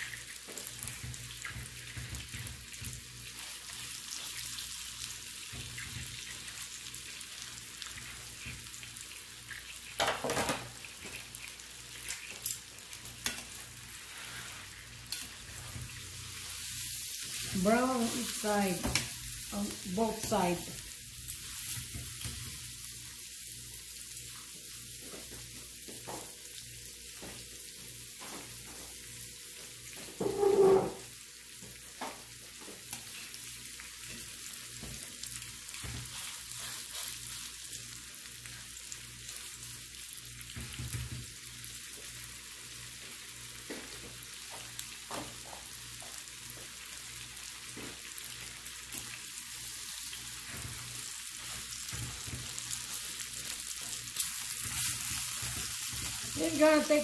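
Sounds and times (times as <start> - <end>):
meat sizzling in skillet: 0.0 - 57.0.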